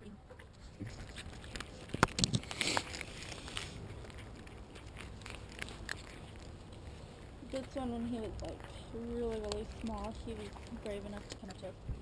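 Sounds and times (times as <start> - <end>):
cats crunching dry kibble: 0.4 - 12.0.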